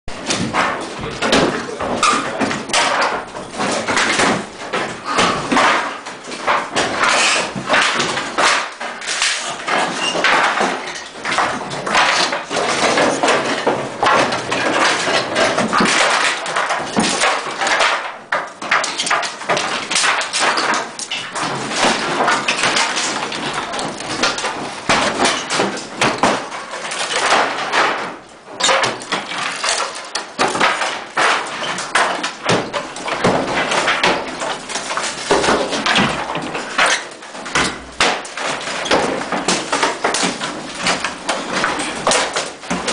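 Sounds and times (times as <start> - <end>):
debris falling: 0.1 - 42.9
hand tools hammering and prying: 0.1 - 42.9.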